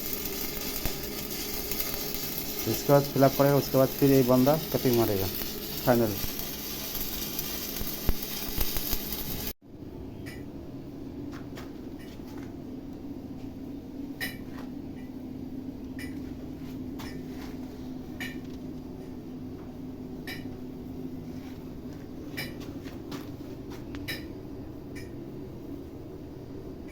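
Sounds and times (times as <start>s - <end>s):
electrical hum: 0.0s - 26.9s.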